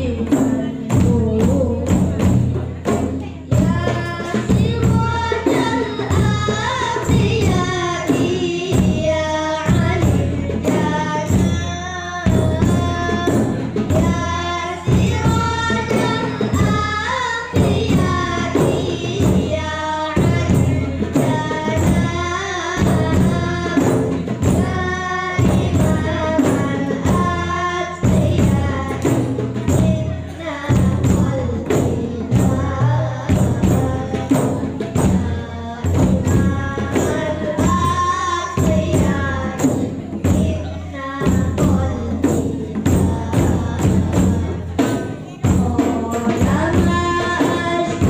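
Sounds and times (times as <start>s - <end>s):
barrel drum beating: 0.0s - 48.0s
boys singing in unison: 0.0s - 48.0s
frame drums: 0.0s - 48.0s.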